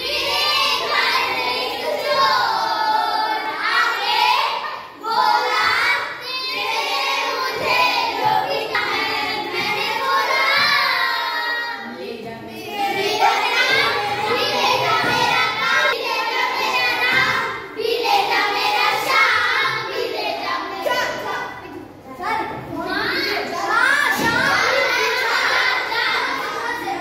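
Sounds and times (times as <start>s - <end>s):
children singing: 0.0s - 21.9s, 22.5s - 27.0s.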